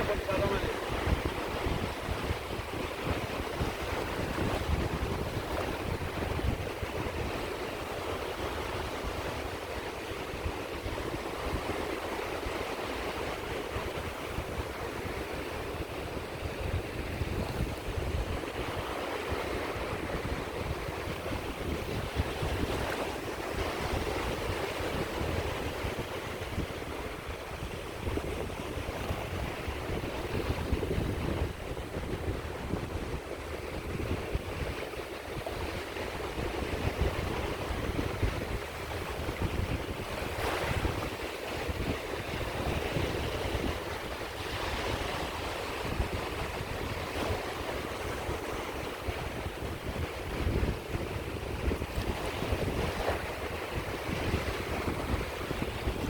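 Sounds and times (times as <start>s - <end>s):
waves breaking on shore: 0.0s - 56.0s
wind rumble on microphone: 0.0s - 56.0s.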